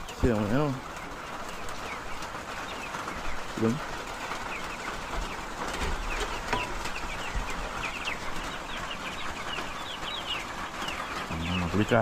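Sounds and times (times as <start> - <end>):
chicks peeping: 0.0 - 12.0
rain hissing: 0.0 - 12.0.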